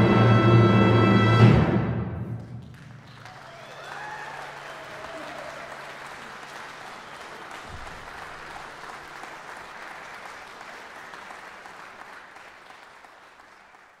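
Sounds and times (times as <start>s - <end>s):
audience applauding: 2.4s - 14.0s.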